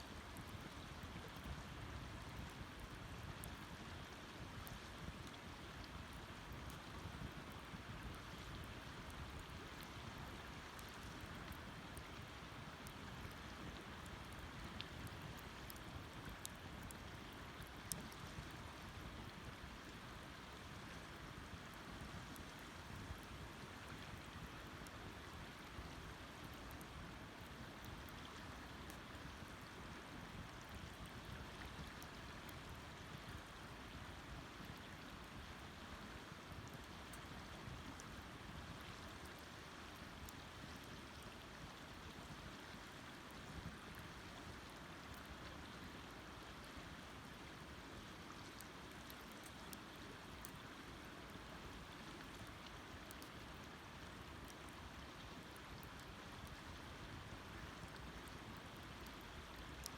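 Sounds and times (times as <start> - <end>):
campfire hiss: 0.0 - 59.9
fire crackles and pops: 0.2 - 45.9, 48.3 - 59.9.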